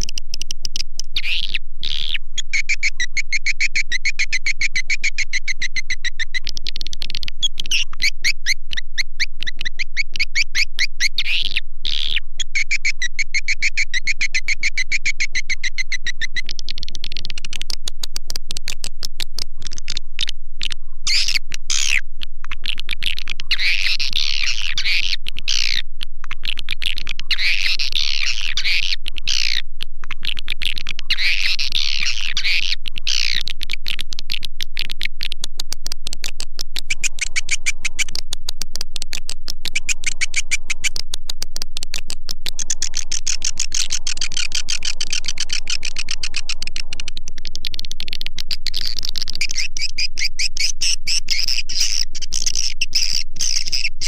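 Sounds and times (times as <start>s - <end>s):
swiftlet chirping and twittering: 0.0s - 18.7s, 19.6s - 22.0s, 22.6s - 34.4s, 36.8s - 38.3s, 39.2s - 41.1s, 42.4s - 54.0s
fast even clicking patter: 0.0s - 54.0s.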